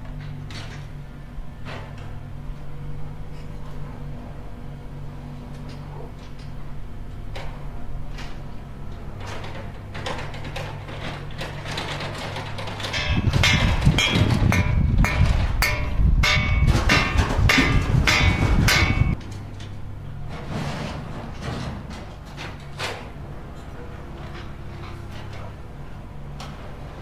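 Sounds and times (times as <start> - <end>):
clattering rumble with metallic clanks: 0.0 - 27.0
low machine hum: 0.0 - 27.0.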